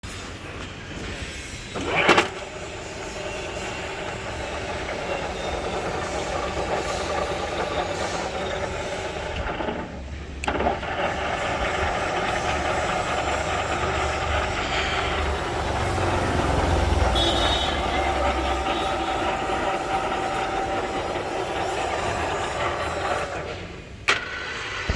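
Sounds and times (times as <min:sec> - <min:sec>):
milling machine humming: 0:01.0 - 0:24.0
machine clunk: 0:01.0 - 0:24.9.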